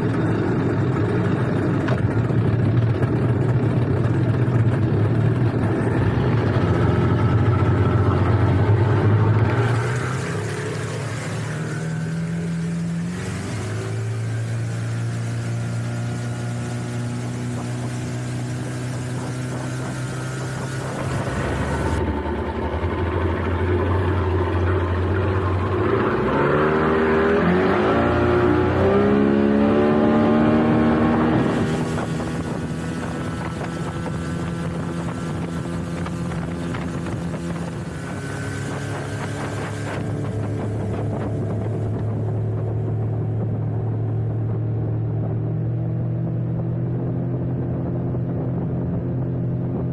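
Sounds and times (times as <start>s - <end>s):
water rushing: 0.0s - 46.4s
outboard motor running at speed: 0.0s - 49.9s.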